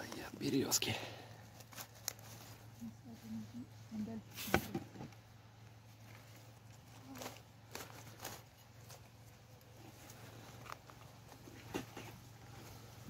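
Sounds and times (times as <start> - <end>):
low steady hum: 0.0 - 13.0
leaf litter rustling and crackling: 1.4 - 4.6, 5.8 - 13.0.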